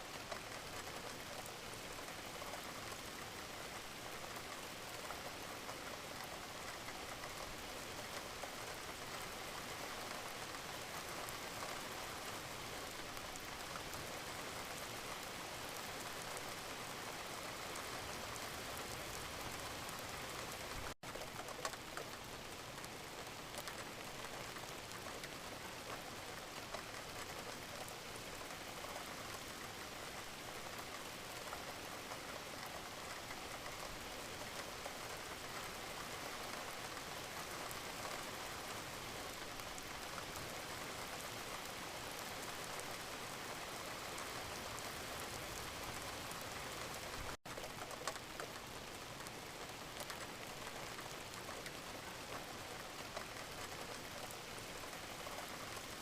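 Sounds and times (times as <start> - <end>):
gentle rain patter: 0.0 - 56.0.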